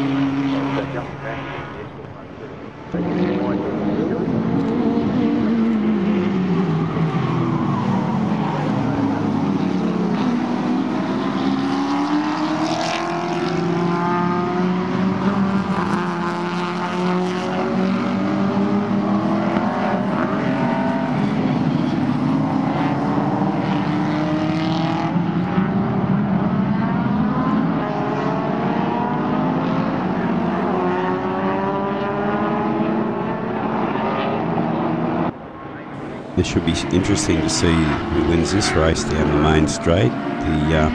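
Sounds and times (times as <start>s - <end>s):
racing car engines: 0.0s - 40.9s.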